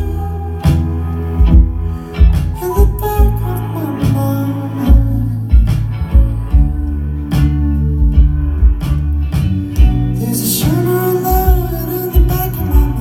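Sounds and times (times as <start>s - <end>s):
bass notes: 0.0s - 13.0s
guitar: 0.0s - 13.0s
steady drum beat: 0.0s - 13.0s.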